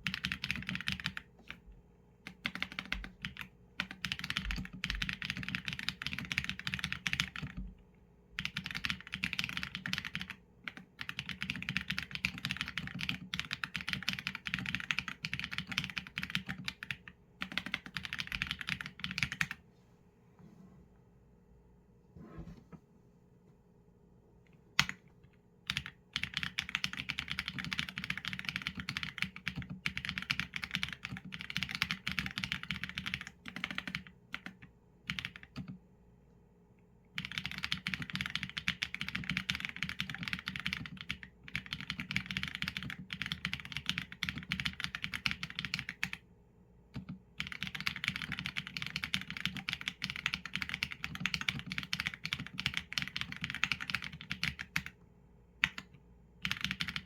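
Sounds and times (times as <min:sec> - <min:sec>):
mechanical keyboard typing: 0:00.0 - 0:01.6, 0:02.2 - 0:07.7, 0:08.4 - 0:19.6, 0:24.8 - 0:25.0, 0:25.7 - 0:35.8, 0:37.2 - 0:46.2, 0:47.0 - 0:55.0, 0:55.6 - 0:57.0.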